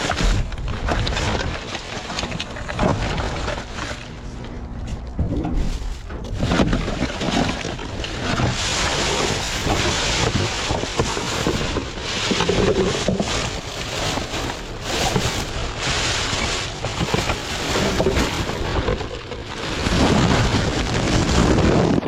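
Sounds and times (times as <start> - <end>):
trash rustling and knocking: 0.0 - 21.2
wind rumbling on microphone: 0.0 - 22.0.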